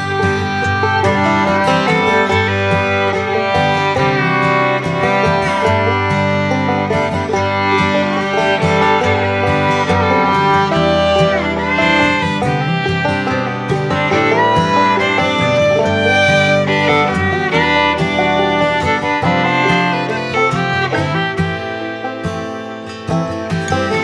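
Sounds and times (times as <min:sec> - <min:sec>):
bluegrass fiddle and guitar: 0:00.0 - 0:24.0.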